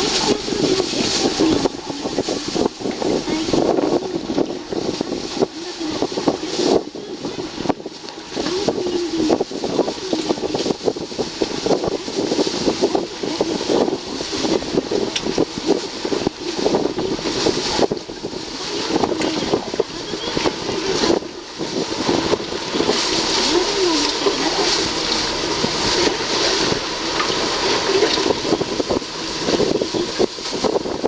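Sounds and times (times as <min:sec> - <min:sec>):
boat engine running: 0:00.0 - 0:31.0
waves splashing against hull: 0:00.0 - 0:31.0
wind buffeting microphone: 0:00.0 - 0:31.0.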